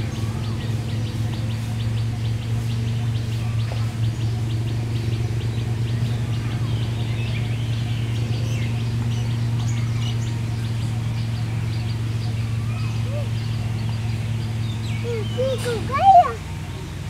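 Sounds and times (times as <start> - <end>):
birds chirping: 0.0 - 17.0
low hum: 0.0 - 17.0.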